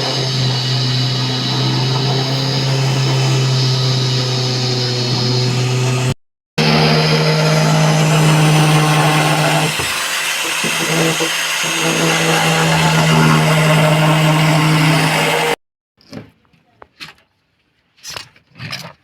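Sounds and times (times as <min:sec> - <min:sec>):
electric power tool running: 0:00.0 - 0:15.6.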